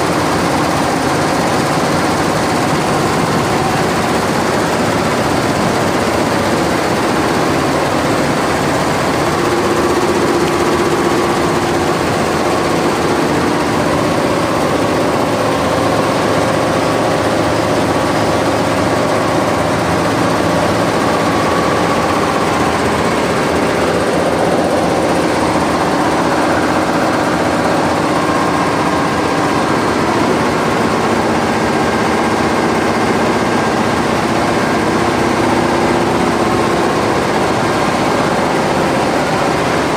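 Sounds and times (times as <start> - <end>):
embroidery machine clattering: 0.0 - 39.9.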